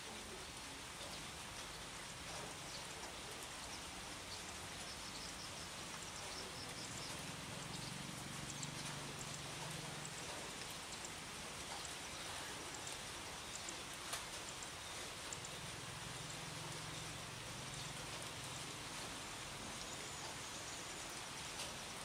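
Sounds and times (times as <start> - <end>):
rain falling on shrubs: 0.0 - 22.0
drips: 0.9 - 22.0.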